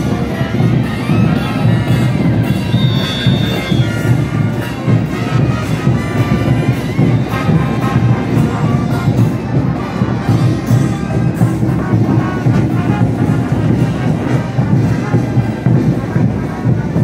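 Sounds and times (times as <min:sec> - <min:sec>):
brass band playing dance tune: 0:00.0 - 0:17.0
steady drumbeat: 0:00.0 - 0:17.0.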